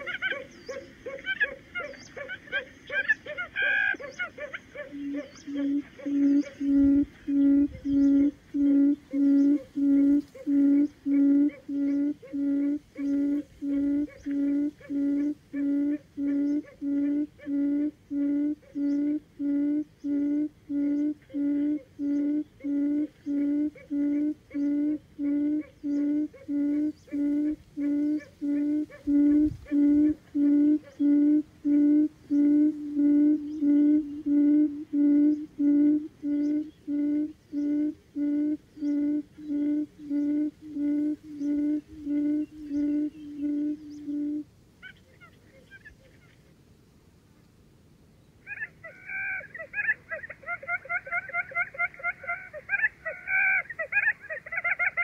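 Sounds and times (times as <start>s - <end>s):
quail hooting: 0.0s - 46.4s, 48.4s - 55.0s.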